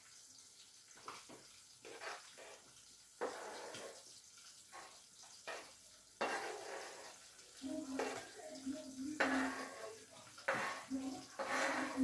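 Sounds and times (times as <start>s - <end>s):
tap water running and splashing: 0.0s - 12.0s.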